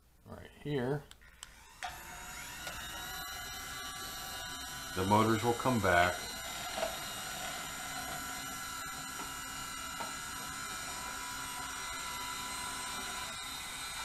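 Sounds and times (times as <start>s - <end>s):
curtain motor whine: 1.3s - 14.0s.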